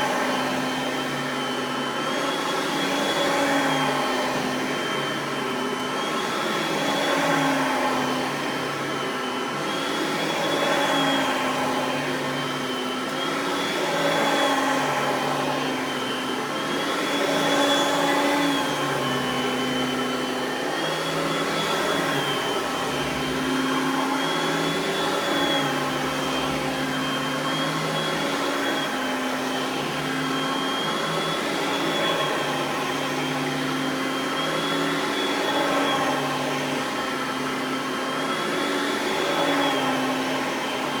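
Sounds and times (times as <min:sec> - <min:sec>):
upright vacuum motor whining: 0:00.0 - 0:41.0.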